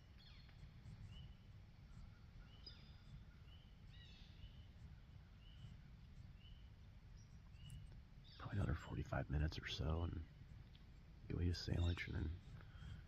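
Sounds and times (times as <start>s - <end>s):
faint songbird calls: 0.0s - 13.0s
low outdoor rumble: 0.0s - 13.0s.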